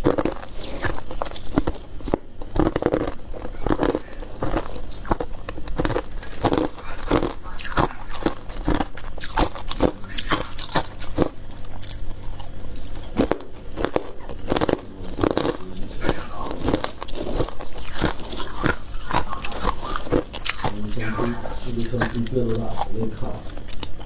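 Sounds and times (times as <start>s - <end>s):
chewing crunchy frost: 0.0s - 24.0s.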